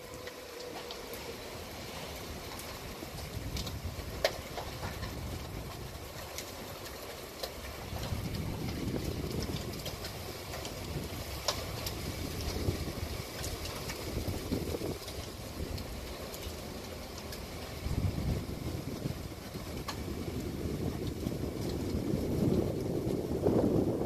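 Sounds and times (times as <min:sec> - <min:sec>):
gusting wind: 0:00.0 - 0:24.0
heavy rain: 0:00.0 - 0:24.0.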